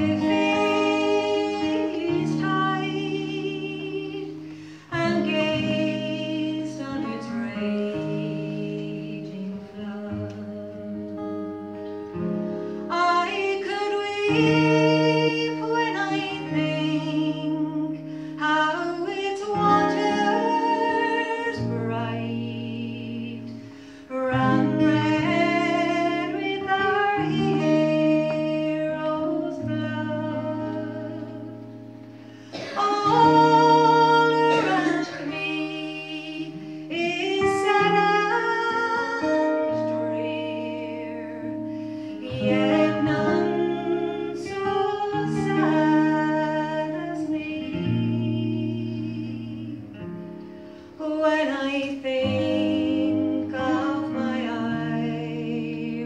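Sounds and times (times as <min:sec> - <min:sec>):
woman singing a slow ballad: 0:00.0 - 0:11.8, 0:12.8 - 0:56.0
acoustic guitar: 0:00.0 - 0:56.0.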